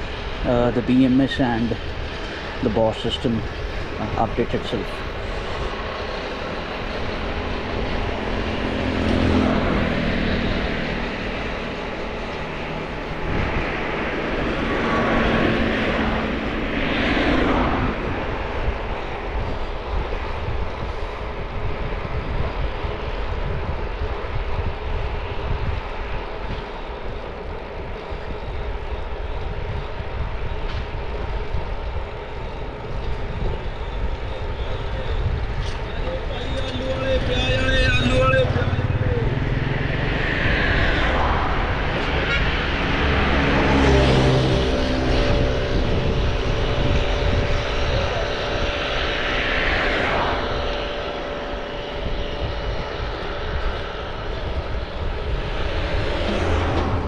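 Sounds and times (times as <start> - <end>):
low hum: 0.0 - 57.0
tyre noise on paved road: 0.0 - 57.0
wind buffeting microphone: 0.0 - 57.0.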